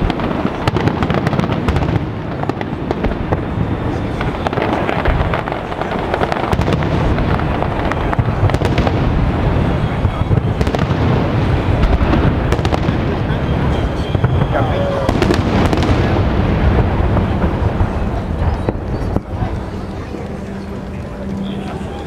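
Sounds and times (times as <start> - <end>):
fireworks bangs and crackle: 0.0 - 22.0.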